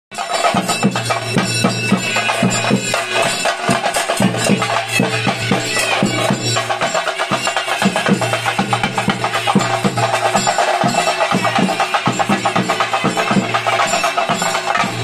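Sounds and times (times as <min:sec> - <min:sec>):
drums beaten with sticks: 0:00.1 - 0:15.0.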